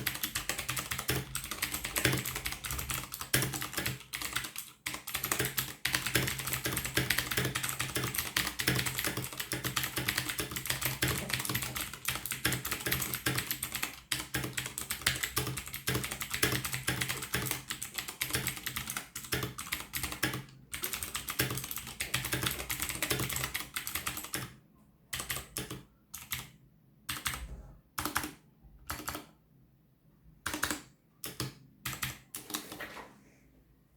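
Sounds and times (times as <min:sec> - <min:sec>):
mechanical keyboard typing: 0:00.0 - 0:29.3, 0:30.4 - 0:32.9.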